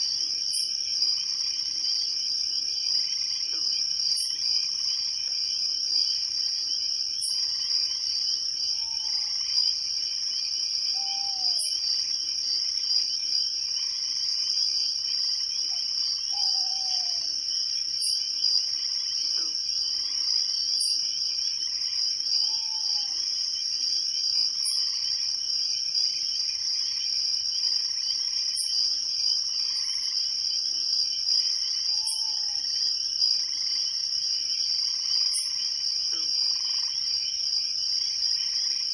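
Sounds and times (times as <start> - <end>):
crickets trilling: 0.0 - 38.9
high insect chirps: 0.0 - 38.9.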